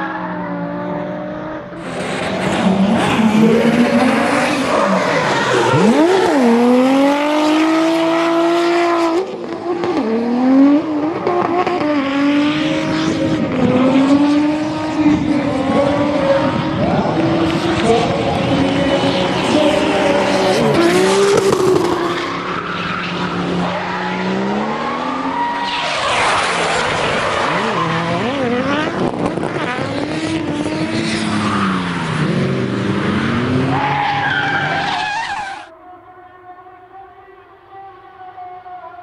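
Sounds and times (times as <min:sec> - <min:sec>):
car engines revving: 0:00.0 - 0:35.7.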